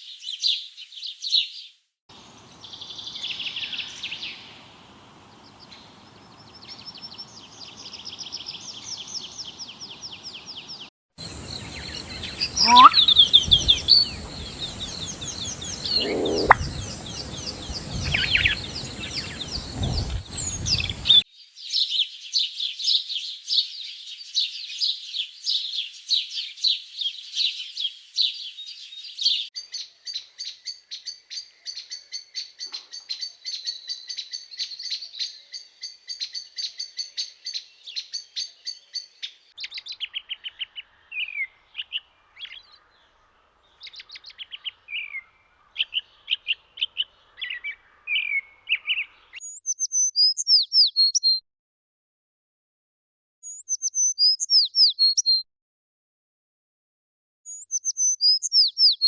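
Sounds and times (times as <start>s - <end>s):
small birds chirping and trilling: 0.0s - 51.4s, 53.4s - 55.4s, 57.5s - 59.0s.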